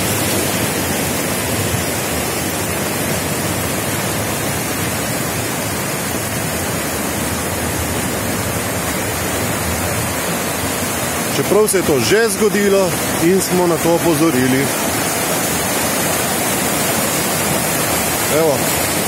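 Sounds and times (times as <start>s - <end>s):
floodwater rushing through channel: 0.0s - 19.0s.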